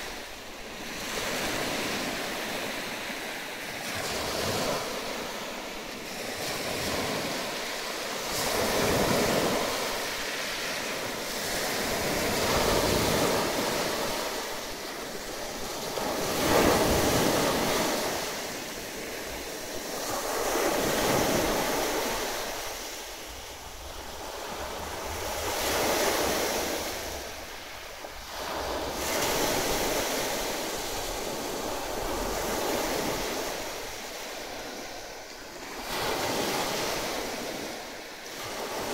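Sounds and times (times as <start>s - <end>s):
small waves breaking on shore: 0.0s - 38.9s.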